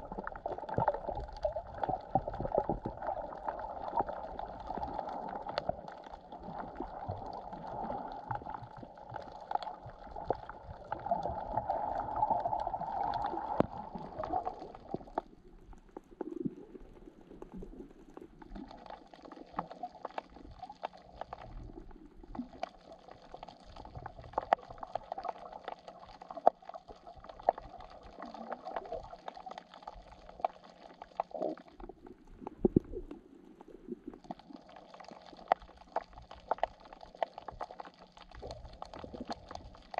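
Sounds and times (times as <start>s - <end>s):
muffled underwater gurgling: 0.0s - 39.9s
sharp clicks and crackles: 0.0s - 39.9s.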